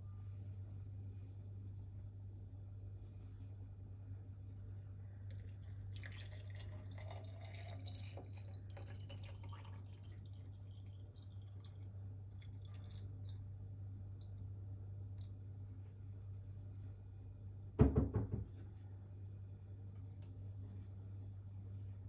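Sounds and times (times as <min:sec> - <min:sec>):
low hum: 0:00.0 - 0:17.8.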